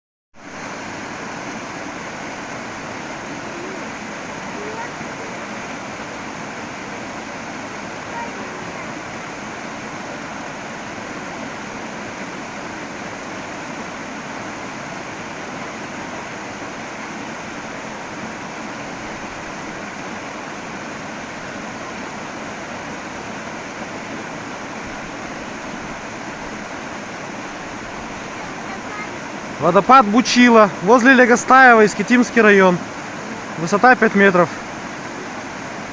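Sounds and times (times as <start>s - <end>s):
small waterfall pouring: 0.4s - 35.9s.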